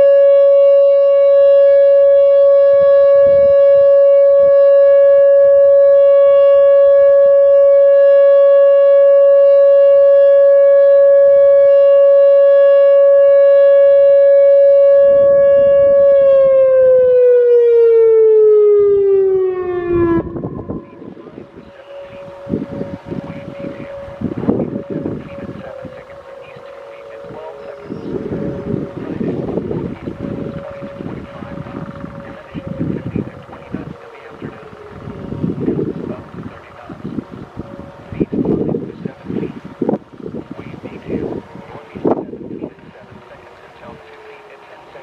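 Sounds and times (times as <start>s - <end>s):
wind noise: 0.0s - 12.0s, 13.1s - 18.2s, 18.8s - 45.0s
warning siren steady tone: 0.0s - 45.0s.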